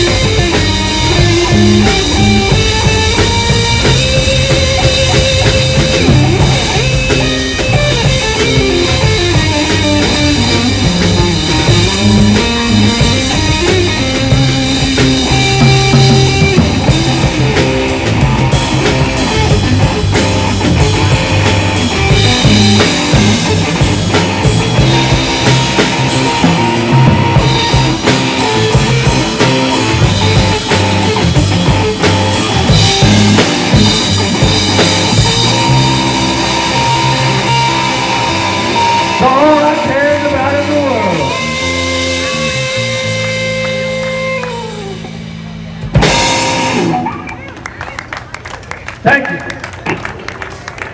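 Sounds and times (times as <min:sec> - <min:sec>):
drum kit: 0:00.0 - 0:47.6
bass guitar: 0:00.0 - 0:48.2
electric guitar: 0:00.0 - 0:50.9.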